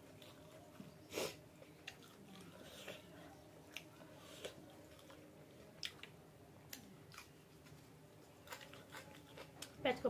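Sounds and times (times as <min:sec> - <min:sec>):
close-up chewing: 0:00.0 - 0:09.8.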